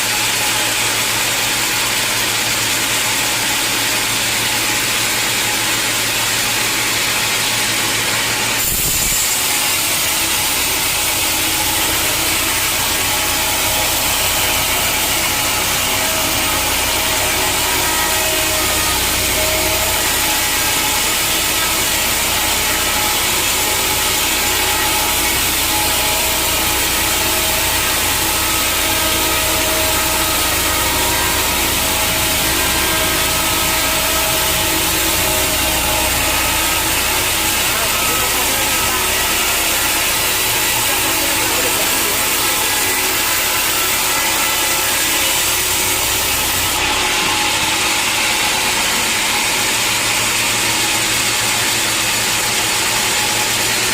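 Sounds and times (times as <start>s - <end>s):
saw cutting through log: 0.0s - 53.9s.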